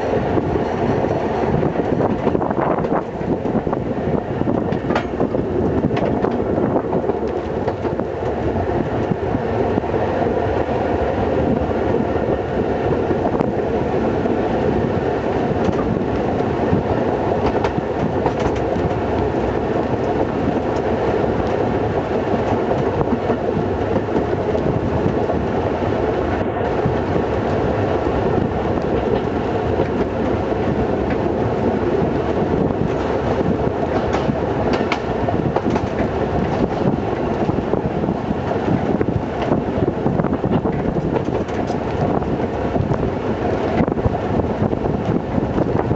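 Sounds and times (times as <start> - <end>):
train running noise: 0.0 - 45.9
wheels clicking over rail joints: 0.0 - 45.9.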